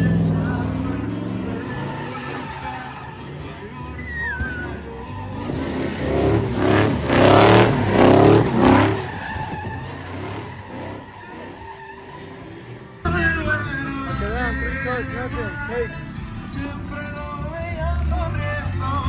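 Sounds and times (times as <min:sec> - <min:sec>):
tires squealing: 0:00.0 - 0:19.0
truck engine running hard: 0:00.0 - 0:19.0.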